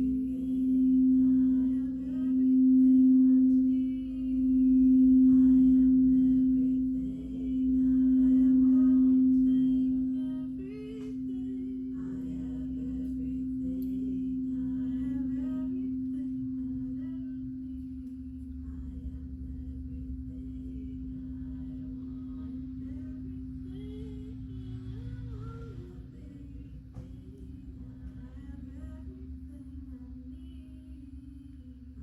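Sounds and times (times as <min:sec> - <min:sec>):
singing bowl ringing: 0:00.0 - 0:26.4.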